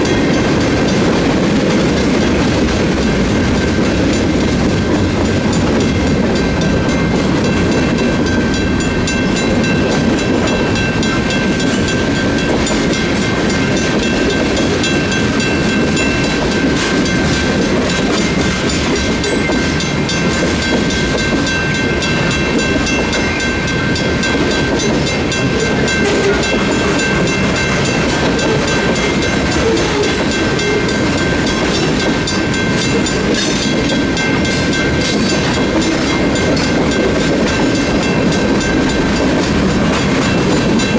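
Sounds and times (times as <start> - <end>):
freight train rumbling: 0.0 - 40.9
train wheels clattering on rails: 0.0 - 40.9.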